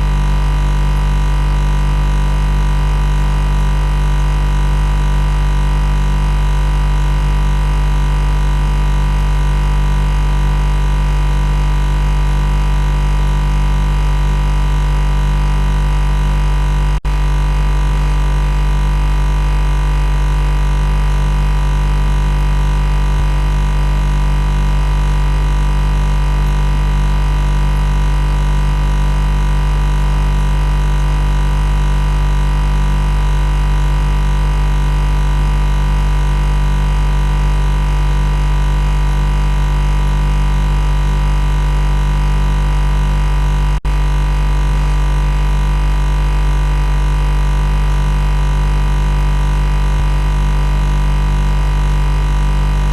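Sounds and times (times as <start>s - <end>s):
loud machine buzz: 0.0s - 52.9s.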